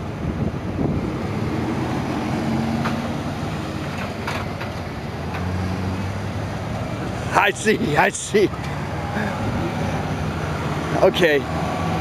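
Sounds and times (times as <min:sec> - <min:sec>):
traffic passing on busy road: 0:00.0 - 0:12.0.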